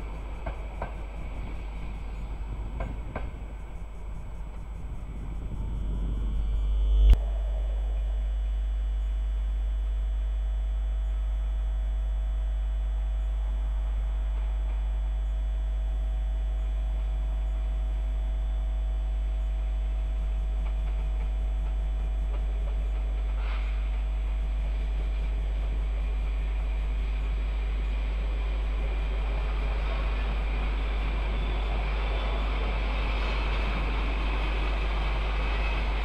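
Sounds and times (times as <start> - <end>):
train rumble and hum: 0.0 - 36.0.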